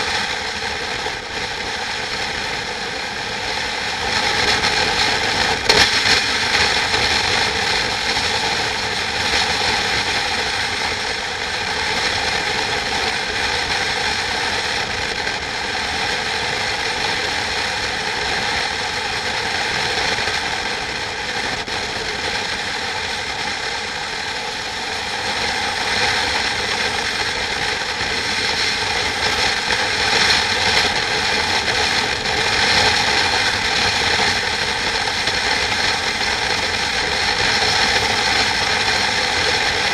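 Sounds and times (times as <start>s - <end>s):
mechanical running noise: 0.0s - 39.9s.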